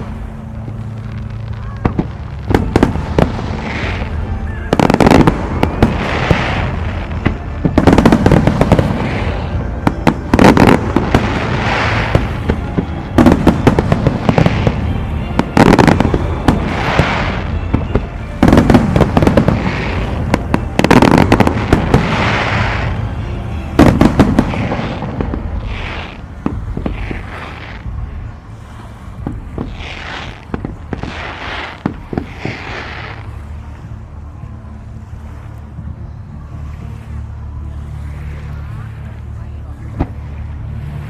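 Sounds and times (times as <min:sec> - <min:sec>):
fireworks bursting: 0:00.0 - 0:34.6
fireworks crackling and hissing: 0:00.0 - 0:41.0.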